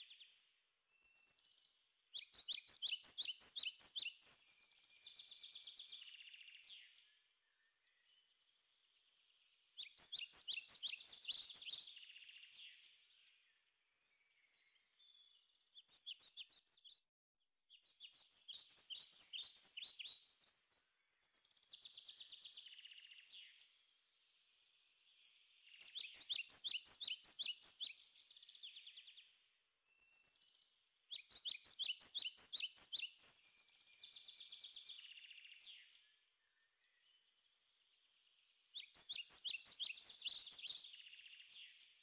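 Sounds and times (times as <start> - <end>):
songbird chirping and trilling: 0.0 - 17.0, 17.7 - 42.0.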